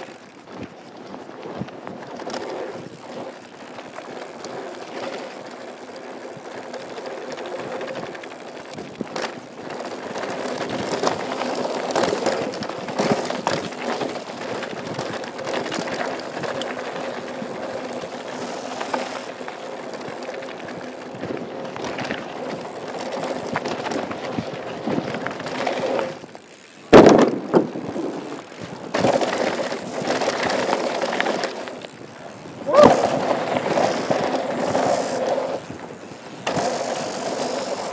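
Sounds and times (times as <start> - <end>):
bike frame and chain rattling: 0.0 - 37.9
bike tyres rolling over dirt: 0.0 - 37.9.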